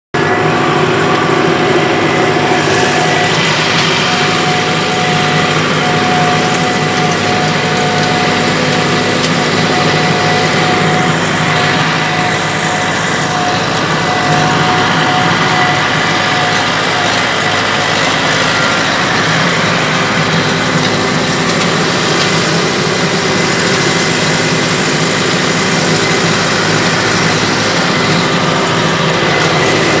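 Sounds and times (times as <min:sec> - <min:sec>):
high whine: 0:00.1 - 0:30.0
tractor engine running: 0:00.1 - 0:30.0.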